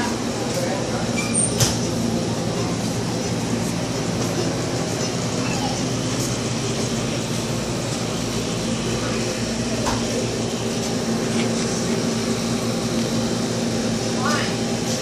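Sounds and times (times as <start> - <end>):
refrigeration equipment humming: 0.0 - 15.0.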